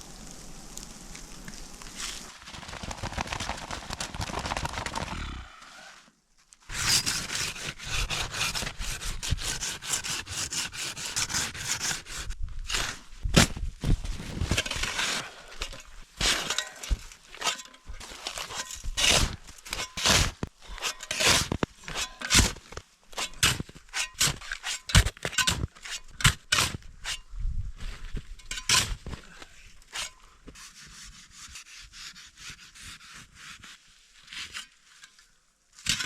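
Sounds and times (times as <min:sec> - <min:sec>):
shovel crunching and scraping snow: 0:01.2 - 0:06.0, 0:06.6 - 0:27.2, 0:27.8 - 0:36.0.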